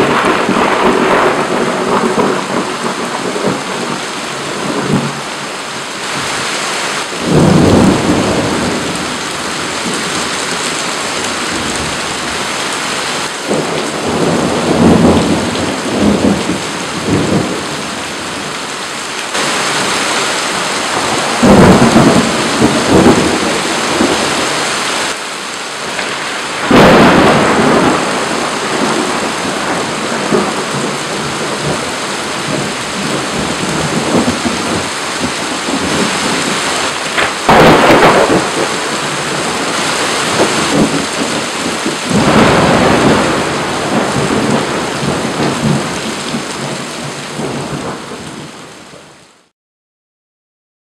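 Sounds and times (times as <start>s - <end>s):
thunder rolling: 0.0s - 5.2s, 7.2s - 12.5s, 13.4s - 18.5s, 19.4s - 24.8s, 25.8s - 48.5s
heavy rain hissing: 0.0s - 49.5s.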